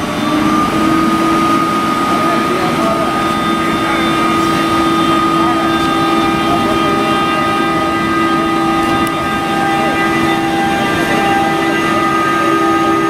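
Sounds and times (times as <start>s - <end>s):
electric locomotive humming: 0.0s - 13.0s
train rolling noise: 0.0s - 13.0s.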